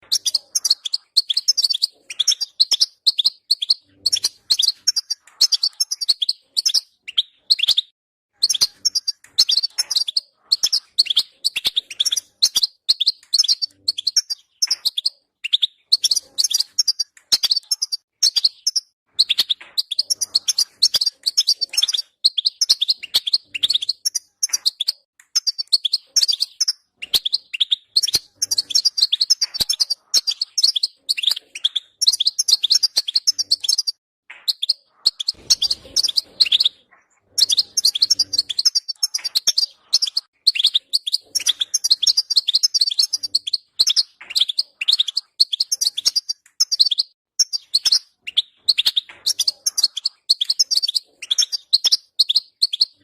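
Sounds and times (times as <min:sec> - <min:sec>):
finch singing twittered phrases: 0:00.0 - 0:53.0.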